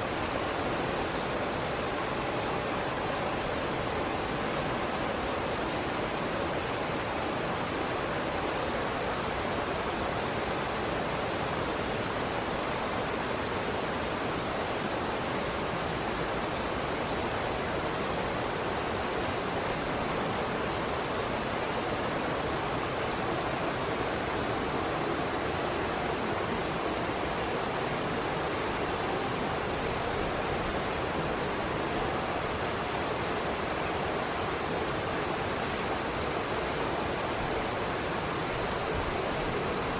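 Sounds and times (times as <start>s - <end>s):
high-pitched insect drone: 0.0s - 39.9s
running water rushing: 0.0s - 39.9s.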